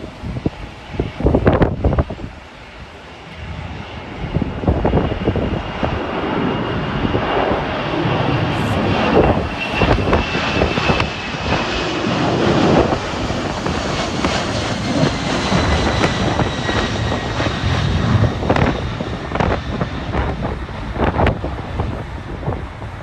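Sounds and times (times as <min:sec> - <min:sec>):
jet airliner passing: 0:00.0 - 0:23.0
wind buffeting microphone: 0:00.0 - 0:23.0.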